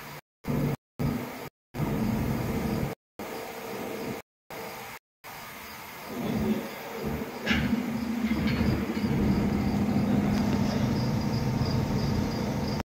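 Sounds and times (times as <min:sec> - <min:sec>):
low mechanical hum: 0:00.0 - 0:12.8.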